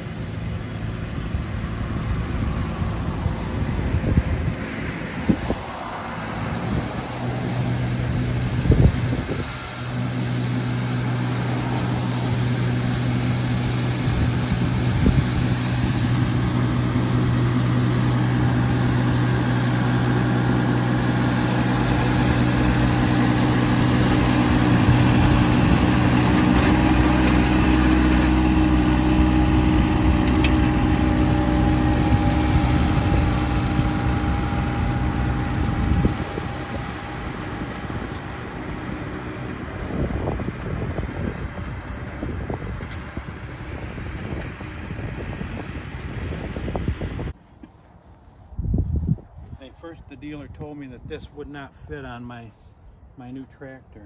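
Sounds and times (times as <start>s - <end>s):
garden tractor engine running: 0.0s - 52.6s.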